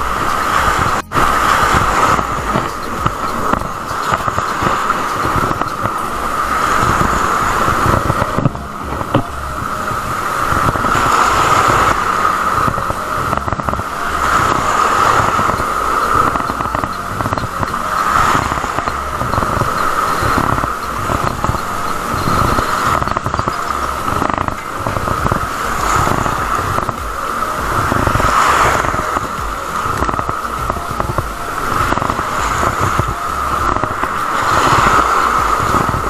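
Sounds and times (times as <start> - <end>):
surf on rocky shore: 0.0 - 36.0
wind: 0.0 - 36.0.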